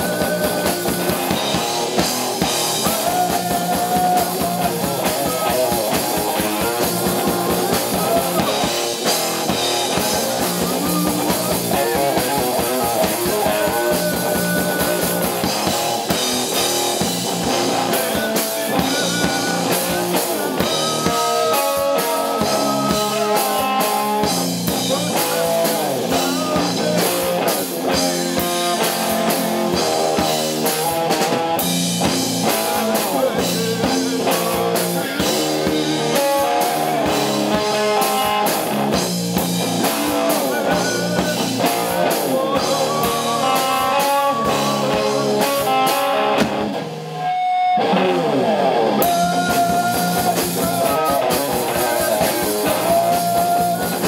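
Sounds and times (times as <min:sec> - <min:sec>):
distorted electric guitar: 0:00.0 - 0:54.0
drum kit: 0:00.0 - 0:54.0.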